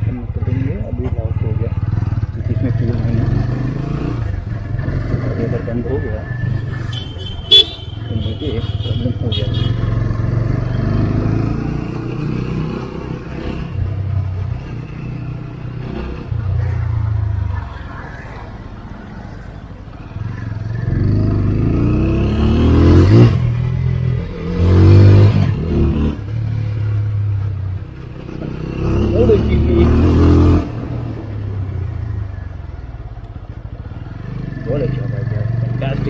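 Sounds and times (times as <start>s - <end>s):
motorcycle engine revving: 0.0s - 17.7s, 20.0s - 36.0s.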